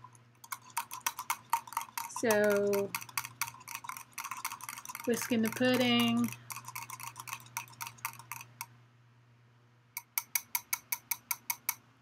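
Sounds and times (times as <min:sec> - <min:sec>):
whisk clicking against bowl: 0:00.0 - 0:08.7, 0:10.0 - 0:11.8.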